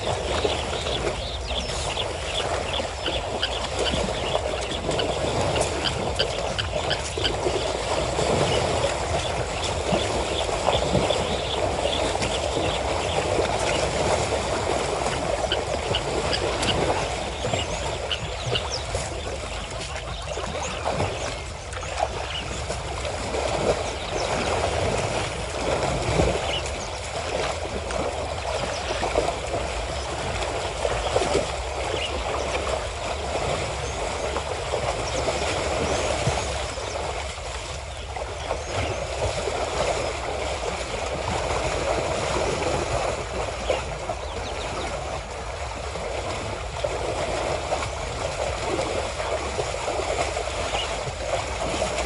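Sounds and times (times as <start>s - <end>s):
water splashing and sloshing: 0.0s - 52.0s.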